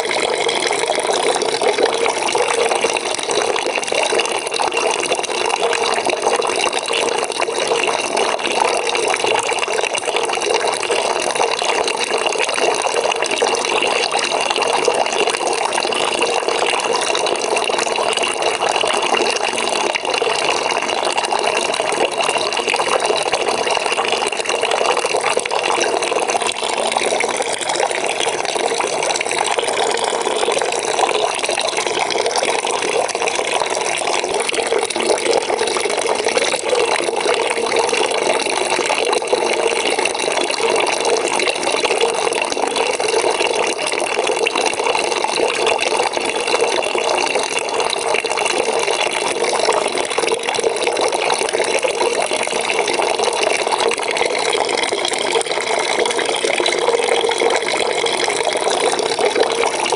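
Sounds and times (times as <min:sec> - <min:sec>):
water pouring into a bucket: 0:00.0 - 0:59.9.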